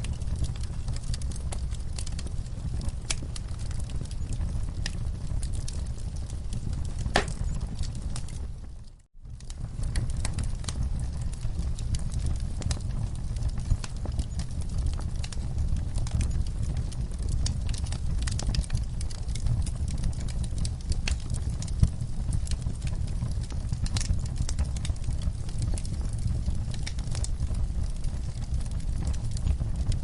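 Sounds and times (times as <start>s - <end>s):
fireplace fire crackling: 0.0s - 30.0s
low rumble of flames: 0.0s - 30.0s.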